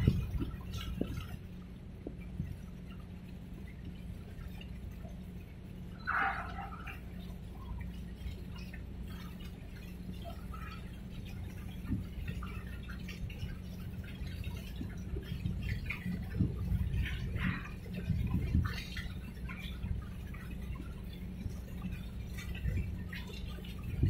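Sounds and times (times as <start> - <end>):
low machinery hum: 0.0 - 24.0
water lapping and dripping: 0.0 - 24.0.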